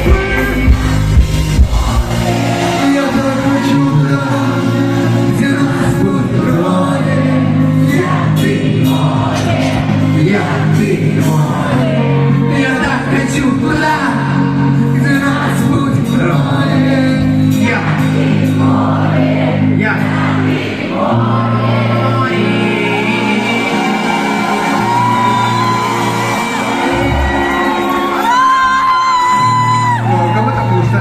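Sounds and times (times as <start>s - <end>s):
person singing: 0.0s - 30.9s
live pop concert music: 0.0s - 31.0s.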